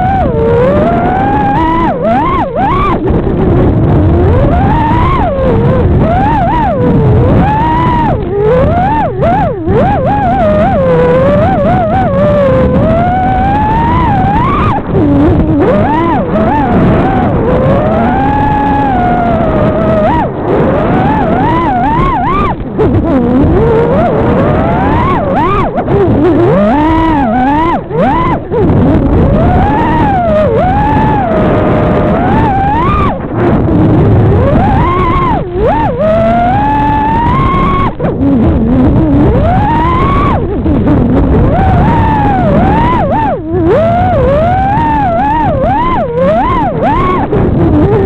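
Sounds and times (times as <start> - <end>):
low rumble: 0.0 - 48.0
quadcopter motors whining: 0.0 - 48.0.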